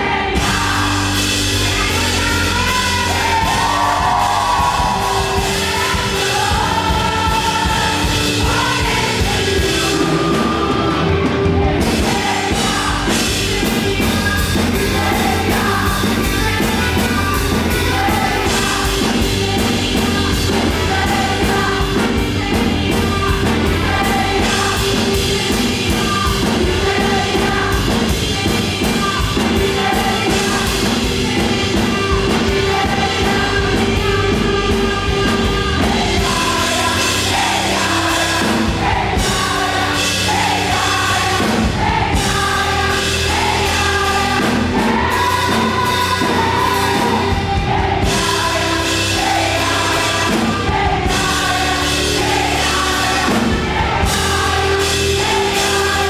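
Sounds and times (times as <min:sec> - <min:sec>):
driving steady beat: 0:00.0 - 0:56.0
group singing gospel music: 0:00.0 - 0:56.0.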